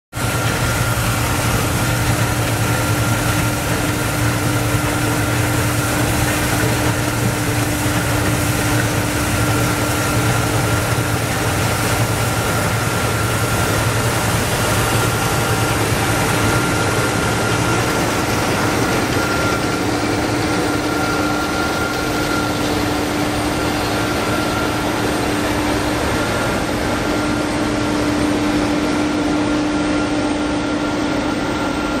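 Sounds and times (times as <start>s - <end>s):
combine harvester engine drone: 0.1s - 32.0s
high steady whine: 0.1s - 32.0s.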